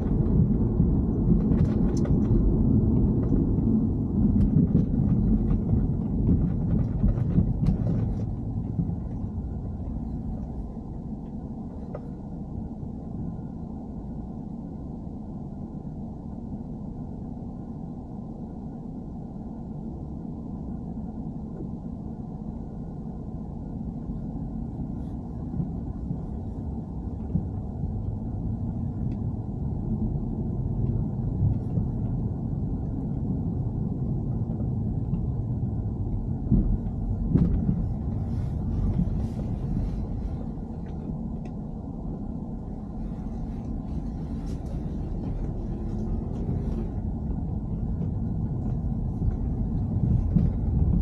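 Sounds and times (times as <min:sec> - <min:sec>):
car engine rumbling: 0:00.0 - 0:51.0.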